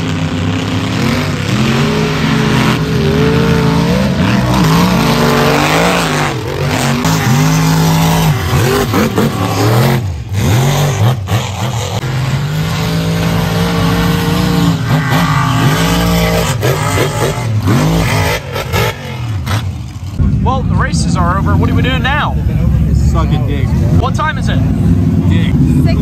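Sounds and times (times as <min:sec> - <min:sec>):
truck engines revving hard: 0:00.0 - 0:26.0.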